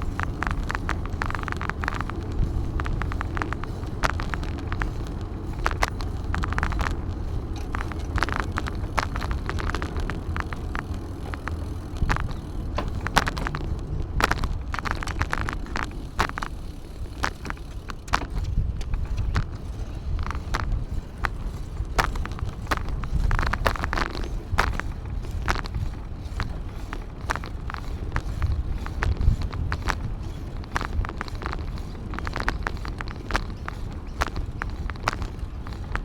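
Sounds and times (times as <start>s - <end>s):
bicycle clicks and rattles: 0.0s - 36.0s
wind and bicycle tyres rumbling: 0.0s - 36.0s.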